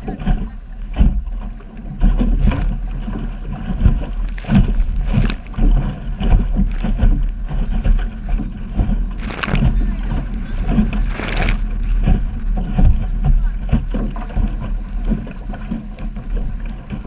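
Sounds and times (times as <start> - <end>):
water splashing against hull: 0.0 - 17.0
wind buffeting microphone: 0.0 - 17.0.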